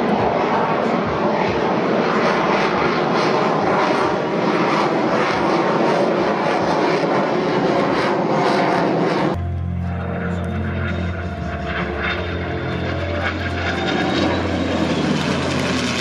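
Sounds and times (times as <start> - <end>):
jet engines roaring with crackle: 0.0 - 16.0.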